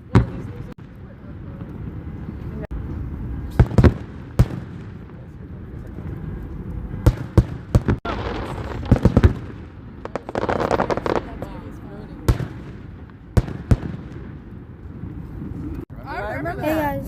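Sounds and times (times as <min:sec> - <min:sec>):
fireworks bursting: 0:00.0 - 0:15.8.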